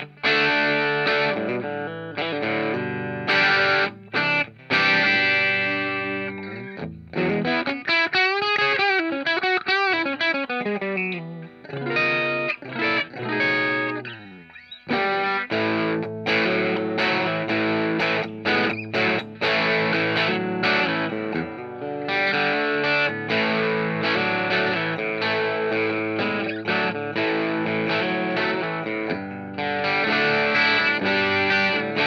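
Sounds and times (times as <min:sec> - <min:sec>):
bent guitar notes with vibrato: 0:00.0 - 0:32.0
electric guitar chords: 0:00.0 - 0:32.0.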